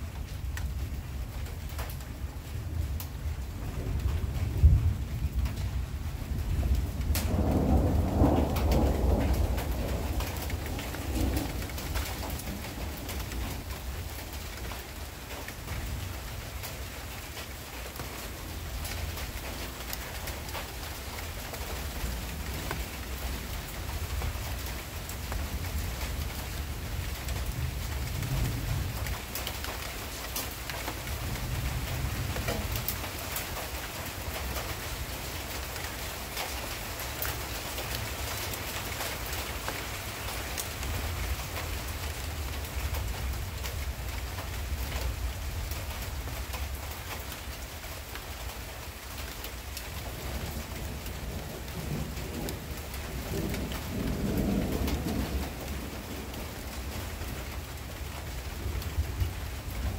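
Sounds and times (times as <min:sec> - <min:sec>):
low rumble of thunder: 0:00.0 - 0:59.9
raindrops ticking close by: 0:00.0 - 0:59.9
steady rain falling: 0:00.0 - 0:59.9.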